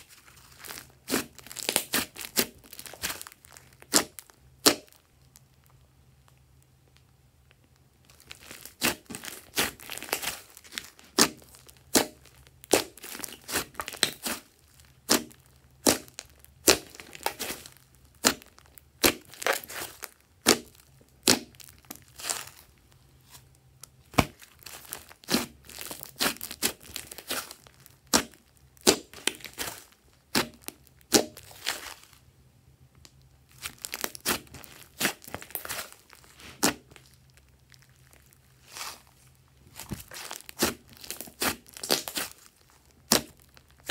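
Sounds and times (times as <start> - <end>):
sticky crackling: 0.0 - 5.8, 8.0 - 32.2, 33.0 - 43.9
slime popping: 0.1 - 5.4, 8.0 - 32.2, 33.0 - 39.1, 39.7 - 43.9.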